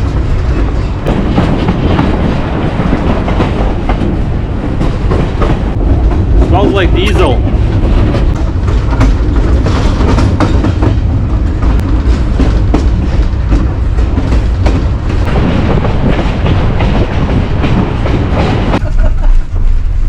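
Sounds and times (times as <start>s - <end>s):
train wheels clacking on rails: 0.0s - 19.8s
train rumbling: 0.0s - 20.0s.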